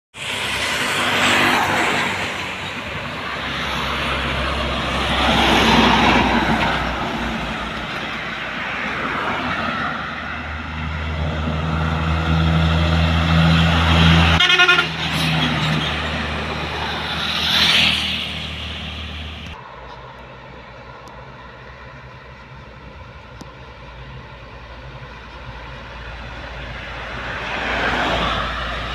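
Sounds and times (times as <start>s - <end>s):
diesel trucks driving past: 0.2s - 28.9s
steady engine hum: 0.2s - 28.9s.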